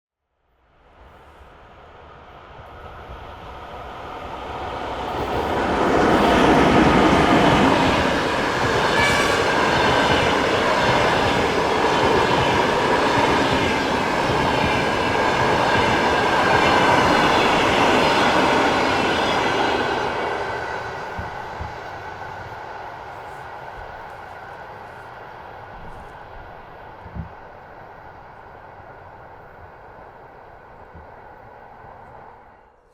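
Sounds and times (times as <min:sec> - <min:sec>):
passenger train passing: 0:00.6 - 0:32.9.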